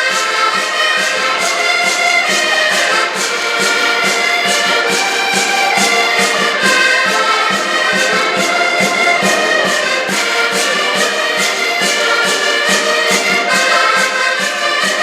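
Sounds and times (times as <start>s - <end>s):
accordion folk music: 0.0s - 15.0s
steady percussion beat: 0.3s - 15.0s.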